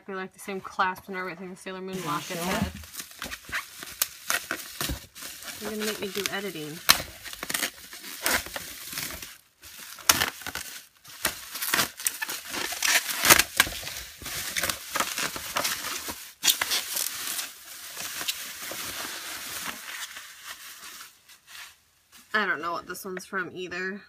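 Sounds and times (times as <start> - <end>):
bubble wrap crinkling: 1.9 - 22.4
bubble wrap crunch: 1.9 - 22.4.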